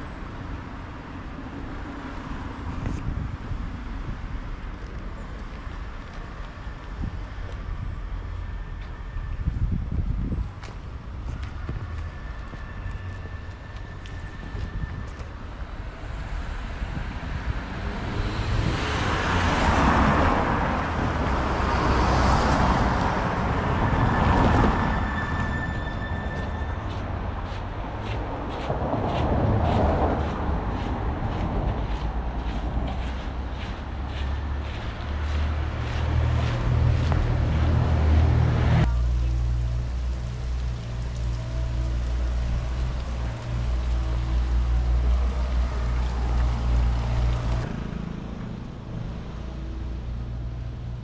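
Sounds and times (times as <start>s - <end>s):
low rumble of street noise: 0.0s - 51.0s
vehicles passing close: 0.0s - 51.0s.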